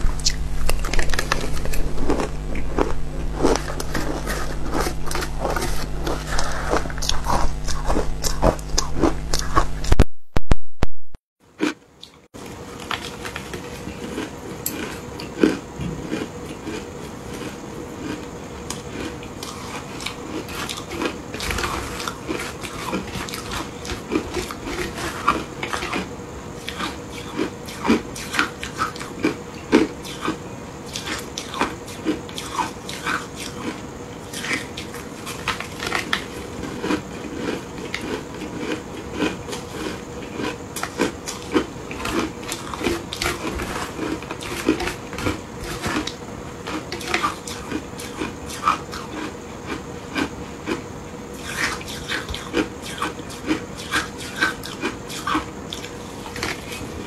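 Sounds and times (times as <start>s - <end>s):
chewing crunchy ice: 0.0s - 9.9s, 11.6s - 57.0s.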